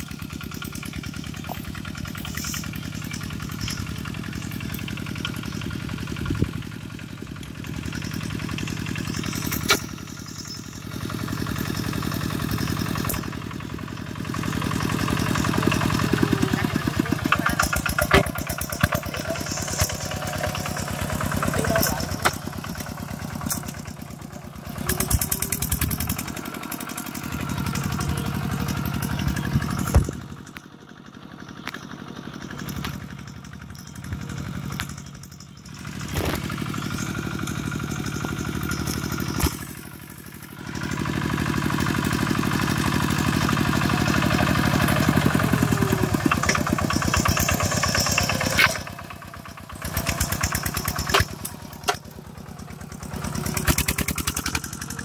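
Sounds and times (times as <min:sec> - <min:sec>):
diesel tractor engine chugging: 0:00.0 - 0:55.0.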